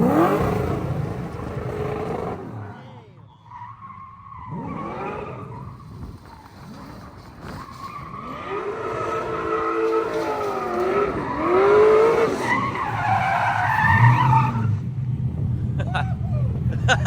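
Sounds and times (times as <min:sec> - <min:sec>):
race car engine revving: 0:00.0 - 0:02.9, 0:04.4 - 0:15.8
tyres skidding: 0:00.0 - 0:17.0.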